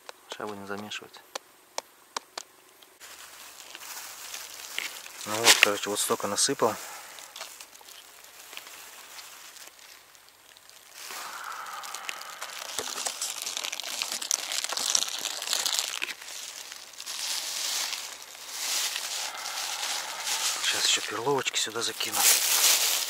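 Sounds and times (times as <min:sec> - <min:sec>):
dry bait crinkling in plastic bucket: 0:03.0 - 0:23.0.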